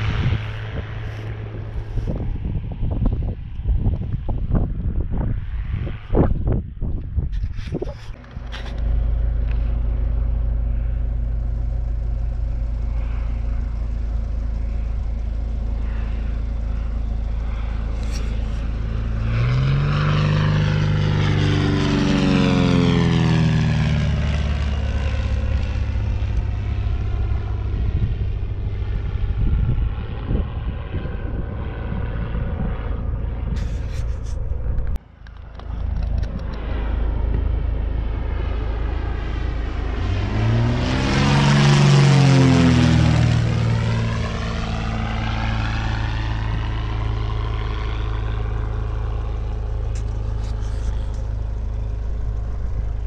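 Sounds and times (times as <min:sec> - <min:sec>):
low rumble: 0:00.0 - 0:53.0
propeller plane flying past: 0:00.0 - 0:53.0.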